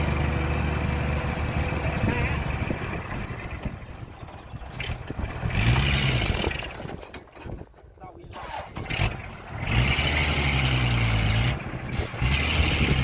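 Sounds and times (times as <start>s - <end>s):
diesel engine revving: 0.0s - 7.0s, 8.3s - 13.0s.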